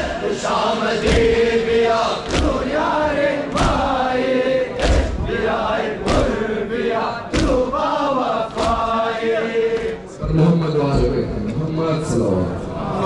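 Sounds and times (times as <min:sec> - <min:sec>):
men chanting in unison: 0:00.0 - 0:10.7.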